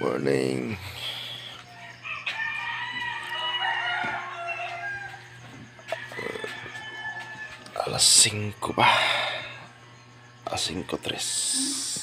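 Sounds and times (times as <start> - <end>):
steady low hum: 0.0 - 12.0
rooster crowing: 1.5 - 11.9.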